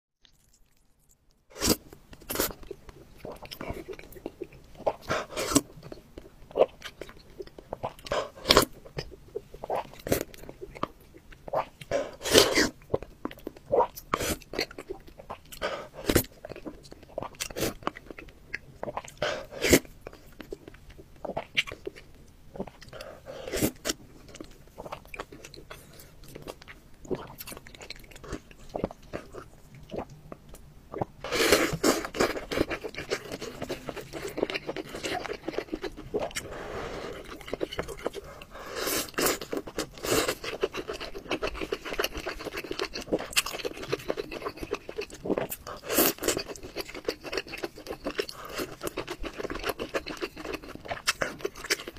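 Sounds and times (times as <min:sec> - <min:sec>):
chewing and slurping: 0:01.6 - 0:51.9.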